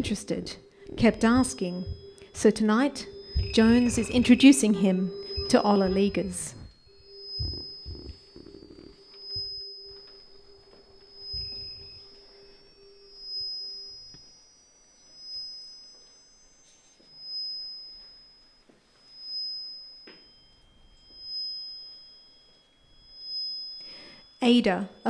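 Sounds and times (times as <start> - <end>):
high steady sine tone: 0.0 - 25.0
lower steady sine tone: 0.0 - 25.0.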